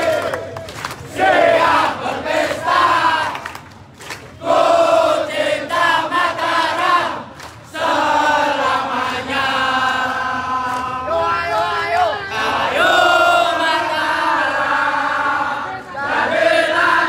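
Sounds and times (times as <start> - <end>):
crowd chanting in unison: 0.0 - 0.5, 1.1 - 3.6, 4.4 - 17.0.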